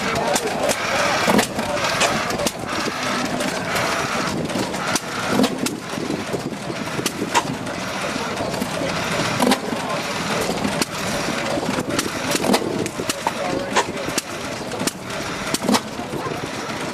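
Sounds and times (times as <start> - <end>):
stationary engines popping and clattering: 0.0 - 16.9.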